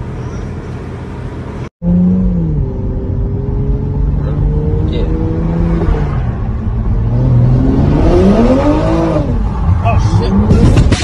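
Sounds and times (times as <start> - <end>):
car engine from inside cabin: 0.0 - 10.3
road traffic noise: 0.0 - 11.0.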